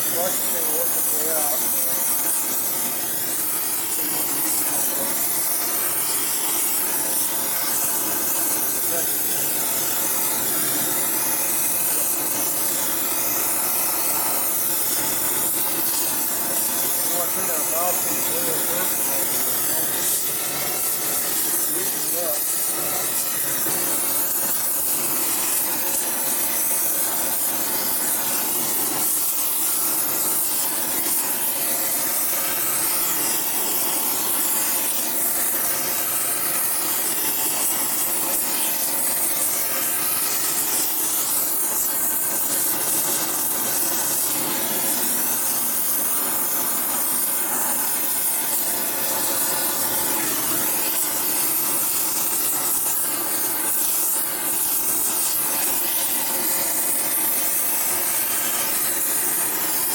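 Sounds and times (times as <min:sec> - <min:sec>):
gas torch flame hissing: 0:00.0 - 0:59.9.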